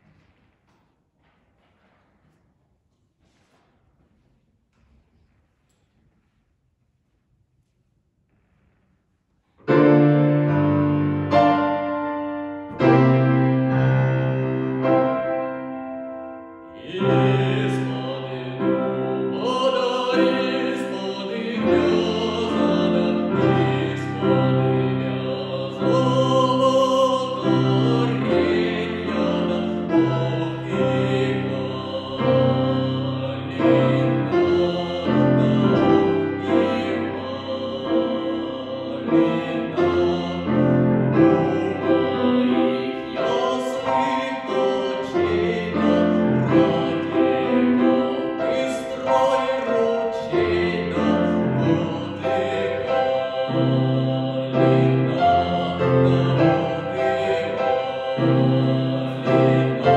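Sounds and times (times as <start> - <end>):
piano: 8.2 - 59.9.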